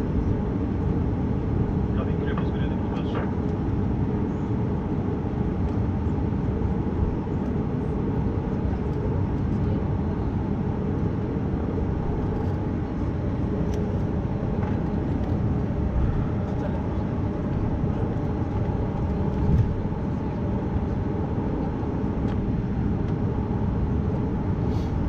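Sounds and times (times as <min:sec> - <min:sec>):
airplane cabin rumble while taxiing: 0:00.0 - 0:25.0.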